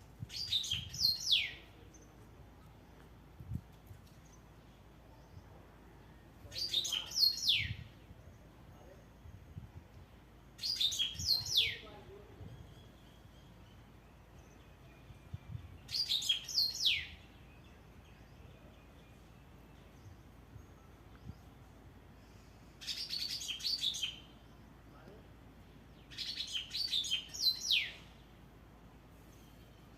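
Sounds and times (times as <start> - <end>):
songbird singing: 0.1 - 29.9.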